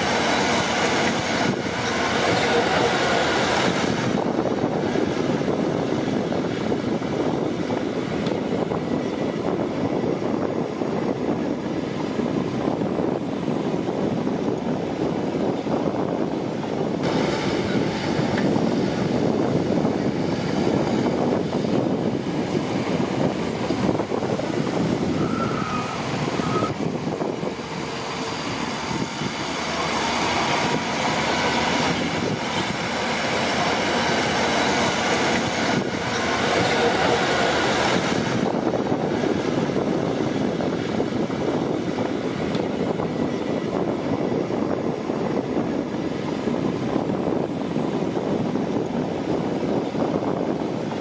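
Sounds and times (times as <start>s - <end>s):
bulldozer diesel engine: 0.0s - 51.0s
steel tracks running: 0.0s - 51.0s.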